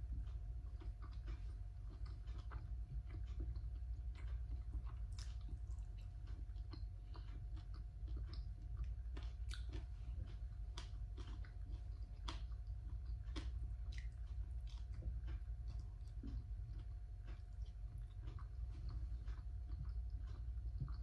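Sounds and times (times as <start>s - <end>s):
chewing and crunching food: 0.0s - 21.0s
faint steady hum: 0.0s - 21.0s.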